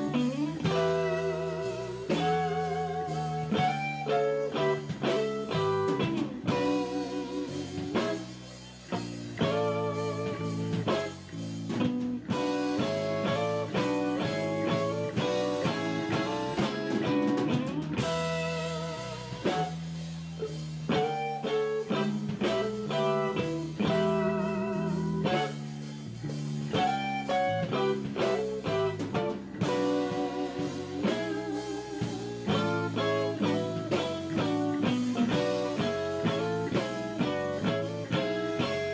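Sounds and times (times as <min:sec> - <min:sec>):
bass guitar: 0:00.0 - 0:38.9
drum kit: 0:00.0 - 0:38.9
lead electric guitar: 0:00.0 - 0:38.9.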